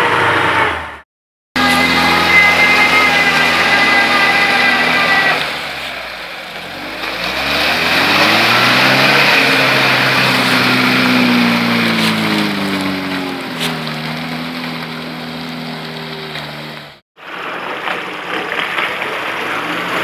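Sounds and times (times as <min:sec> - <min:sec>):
car engine revving: 0:00.0 - 0:01.0, 0:01.6 - 0:17.0.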